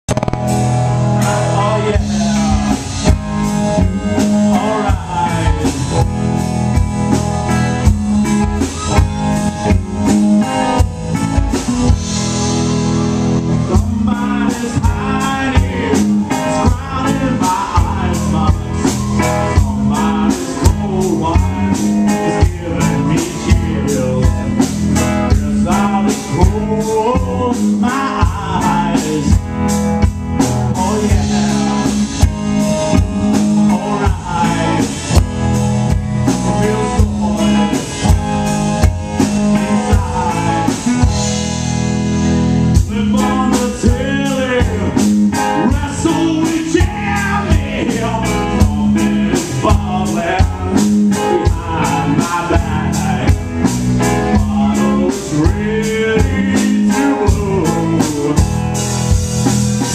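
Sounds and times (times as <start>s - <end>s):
bass guitar: 0.0s - 59.9s
drum kit: 0.0s - 59.9s
electric guitar: 0.0s - 59.9s
man singing: 1.1s - 41.7s, 42.6s - 59.9s.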